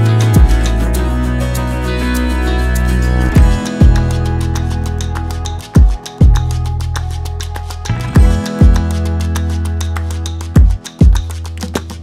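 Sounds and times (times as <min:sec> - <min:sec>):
steady low bass: 0:00.0 - 0:11.3
plucked guitar: 0:00.0 - 0:12.0.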